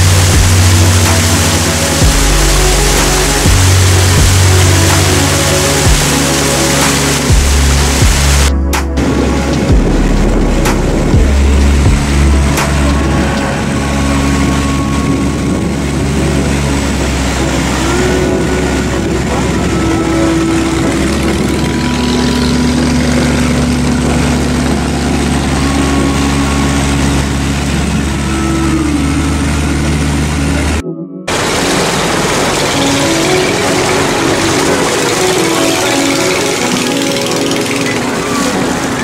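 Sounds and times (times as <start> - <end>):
motorboat engine running: 0.0 - 39.0
water rushing: 0.0 - 39.0
wind: 0.0 - 39.0.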